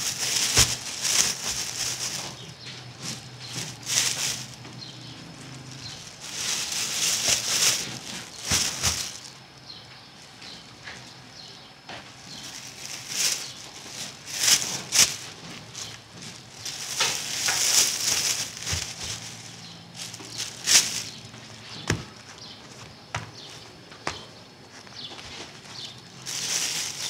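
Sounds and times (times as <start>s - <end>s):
plastic bags crinkling: 0.0s - 27.0s.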